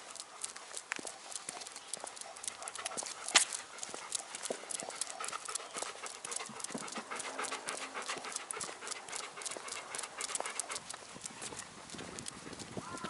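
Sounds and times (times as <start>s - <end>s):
claws clicking on pavement: 0.0s - 13.0s
dogs panting: 0.0s - 13.0s.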